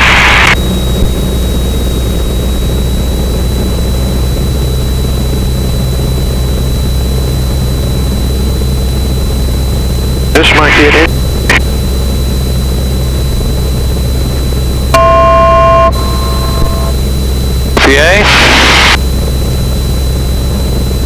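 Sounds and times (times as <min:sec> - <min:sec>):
aircraft engine and propeller droning: 0:00.0 - 0:21.0
high-pitched whine: 0:00.0 - 0:21.0.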